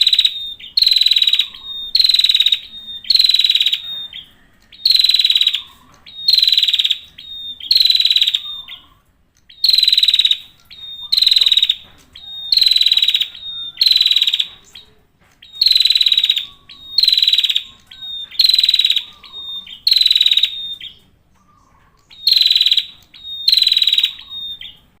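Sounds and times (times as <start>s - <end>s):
bird buzzy trilled song: 0.0s - 25.0s.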